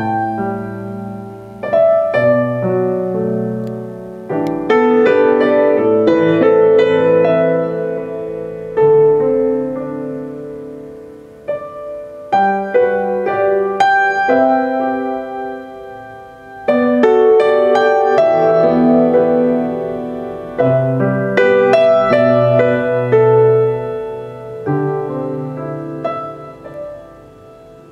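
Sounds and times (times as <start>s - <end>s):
piano chords ringing: 0.0s - 27.9s.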